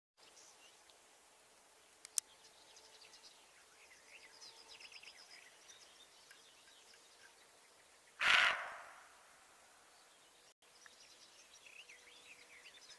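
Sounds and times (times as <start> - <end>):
small birds chirping: 1.8 - 9.0, 9.6 - 12.9.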